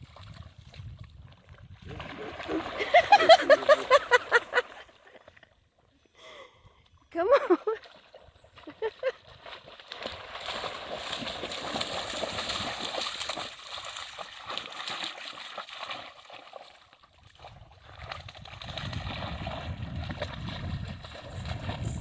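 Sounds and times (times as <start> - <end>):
dog splashing through water: 0.0 - 5.3, 7.8 - 22.0.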